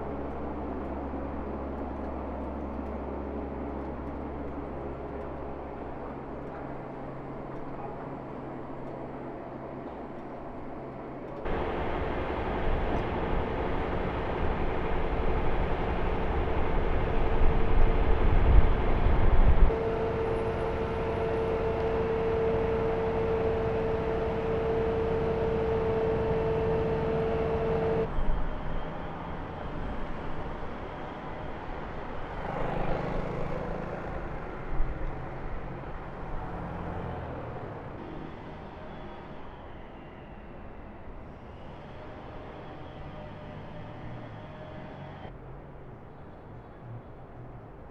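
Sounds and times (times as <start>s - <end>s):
street traffic: 0.0s - 47.9s
vehicle engines: 0.0s - 47.9s.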